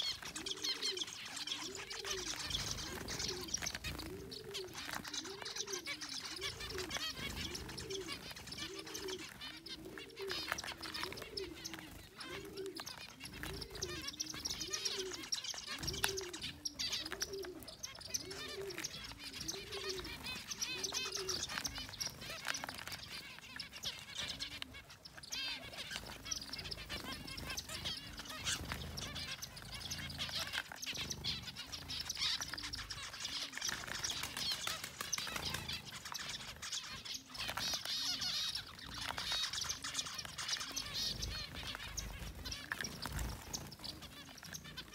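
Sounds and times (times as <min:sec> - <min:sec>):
finches calling: 0:00.0 - 0:44.9.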